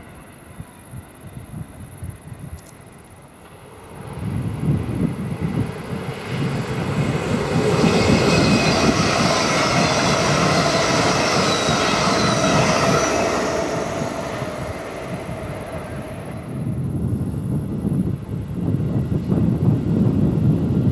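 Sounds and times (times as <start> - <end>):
faint high whine: 0.0 - 18.2
train passing at speed: 0.0 - 20.9.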